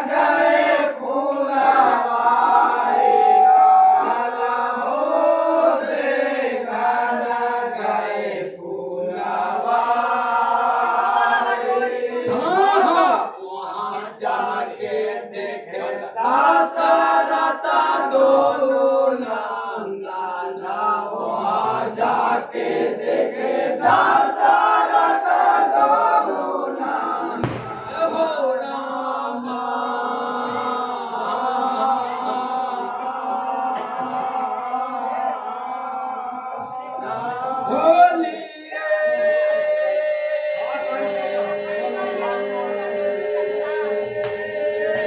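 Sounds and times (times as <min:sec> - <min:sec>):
men singing folk song: 0:00.0 - 0:45.0.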